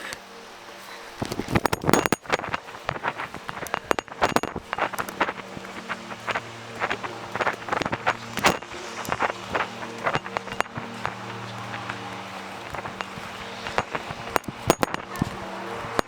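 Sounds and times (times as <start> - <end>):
faint low hum: 0.0 - 16.0
footsteps crunching on trail: 1.1 - 16.0.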